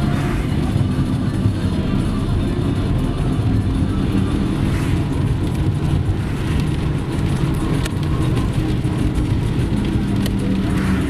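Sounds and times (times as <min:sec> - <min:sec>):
car driving on wet road: 0:00.0 - 0:11.0.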